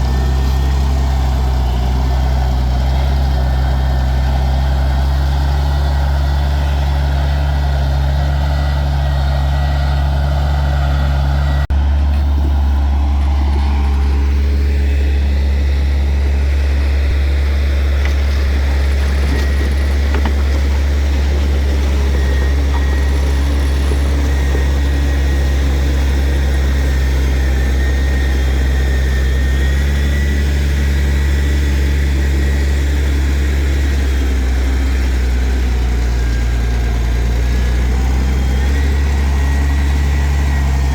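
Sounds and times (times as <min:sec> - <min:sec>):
diesel machinery droning: 0:00.0 - 0:40.9.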